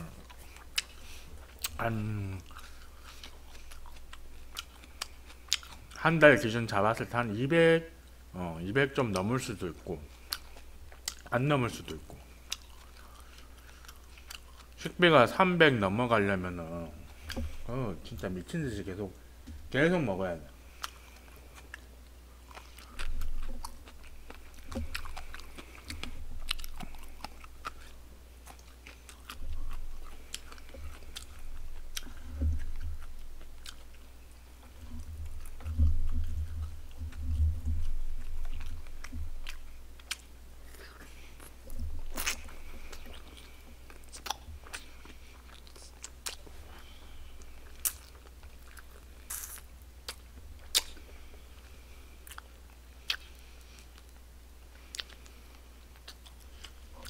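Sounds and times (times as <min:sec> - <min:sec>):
man chewing meat: 0:00.0 - 0:06.3, 0:09.1 - 0:57.0.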